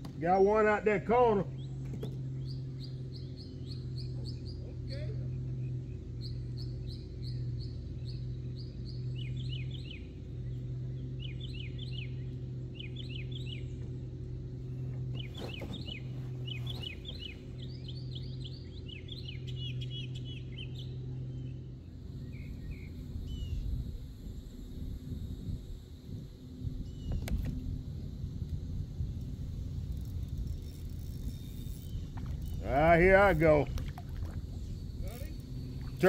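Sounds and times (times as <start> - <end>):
songbirds chirping: 0.0 - 36.0
steady low hum: 0.0 - 36.0.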